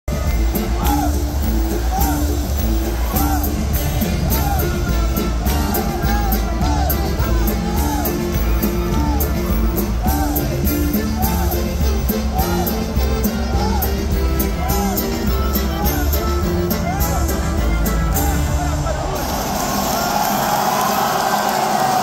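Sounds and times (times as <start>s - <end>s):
bass drum: 0.1s - 19.5s
brass band playing: 0.1s - 20.3s
crowd singing and yelling: 0.1s - 22.0s.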